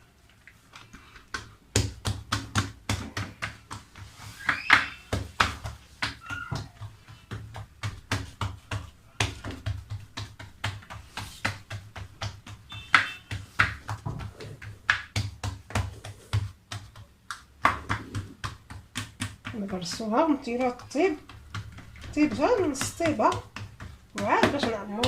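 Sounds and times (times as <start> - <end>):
hands tapping pizza dough: 0.8 - 25.0.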